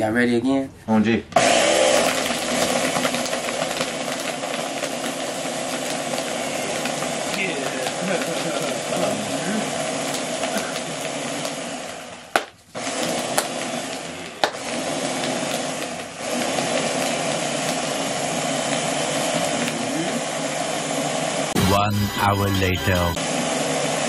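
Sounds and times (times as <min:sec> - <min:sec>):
blender crushing ice: 0:01.4 - 0:21.4.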